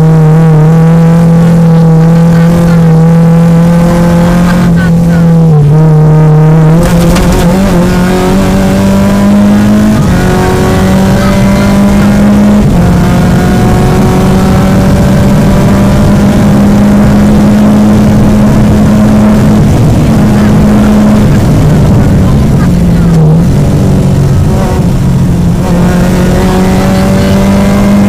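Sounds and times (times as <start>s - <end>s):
car engine under load: 0.0s - 28.0s.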